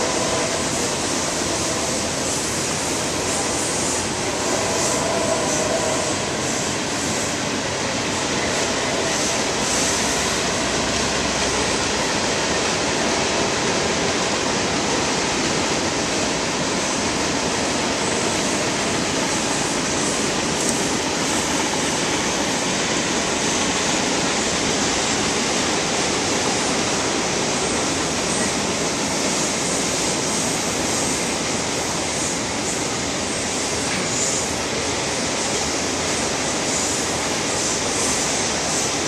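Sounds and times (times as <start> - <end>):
freight train rolling: 0.0 - 39.0.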